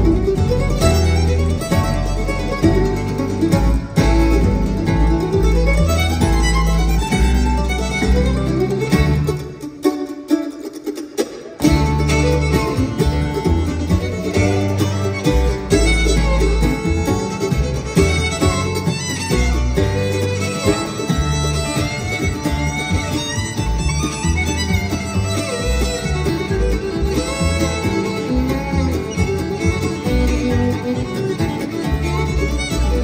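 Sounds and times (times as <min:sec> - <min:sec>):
upright bass: 0:00.0 - 0:09.7, 0:11.6 - 0:33.0
acoustic guitar: 0:00.0 - 0:33.0
fiddle: 0:00.0 - 0:33.0
mandolin: 0:00.0 - 0:33.0.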